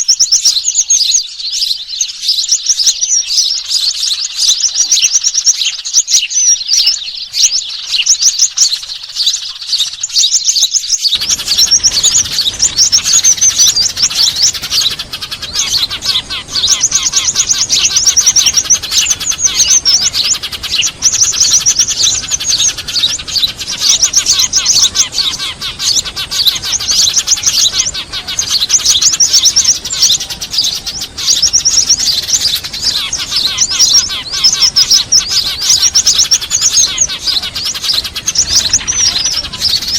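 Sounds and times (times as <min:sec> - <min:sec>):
small birds chirping and trilling: 0:00.0 - 0:39.9
sparrow calls: 0:00.0 - 0:39.9.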